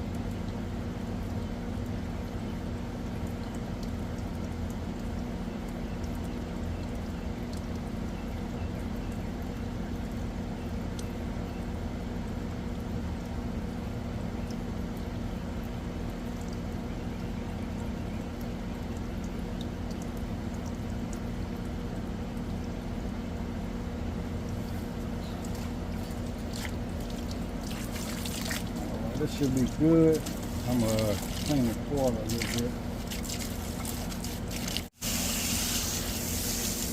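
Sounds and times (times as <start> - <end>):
air conditioner unit humming: 0.0 - 36.9.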